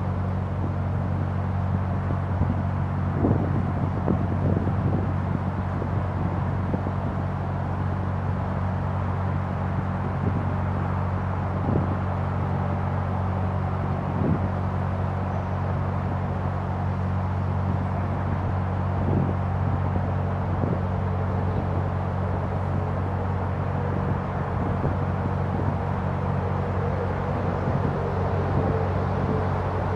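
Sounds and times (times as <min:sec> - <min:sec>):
diesel engine droning: 0:00.0 - 0:29.9.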